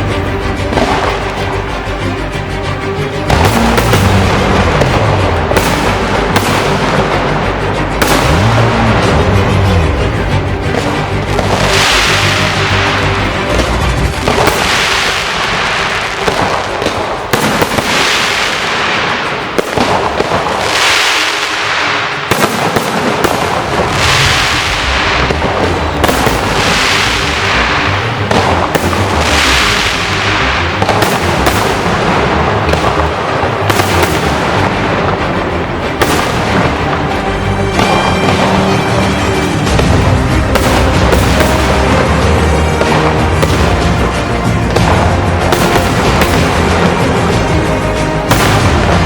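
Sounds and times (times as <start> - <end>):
firecrackers crackling and banging: 0.0 - 49.0.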